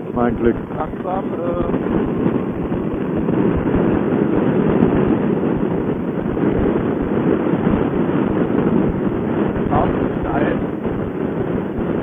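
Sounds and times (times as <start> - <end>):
wind rush over microphone: 0.0 - 12.0.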